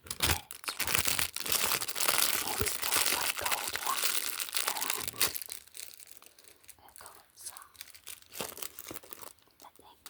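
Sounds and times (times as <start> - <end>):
packaging crinkling: 0.0 - 9.7.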